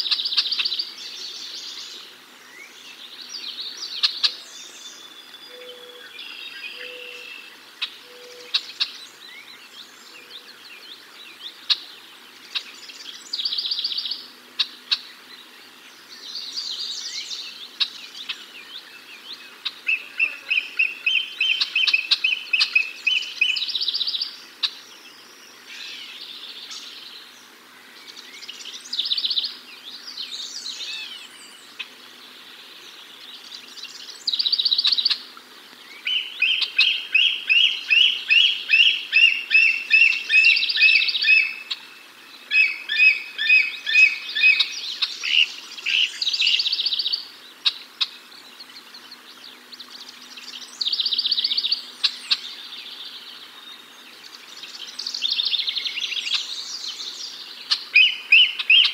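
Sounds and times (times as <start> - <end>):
songbirds singing: 0.0 - 58.9.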